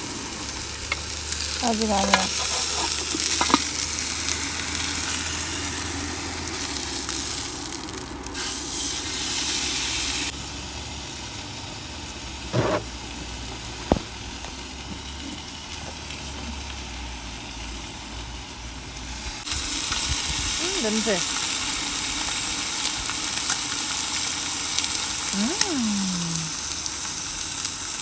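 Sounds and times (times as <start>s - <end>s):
stove burner hissing: 0.0s - 28.0s.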